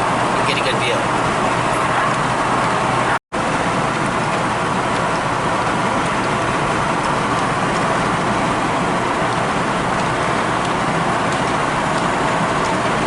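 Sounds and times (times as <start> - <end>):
truck road and wind noise: 0.0 - 13.0.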